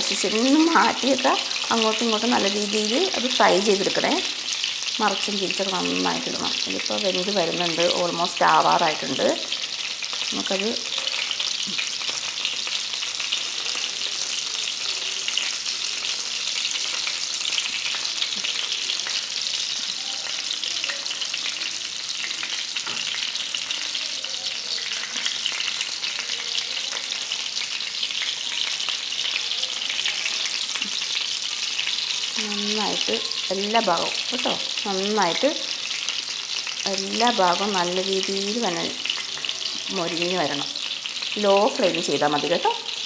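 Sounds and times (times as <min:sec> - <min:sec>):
food deep-frying in hot oil: 0:00.0 - 0:43.0.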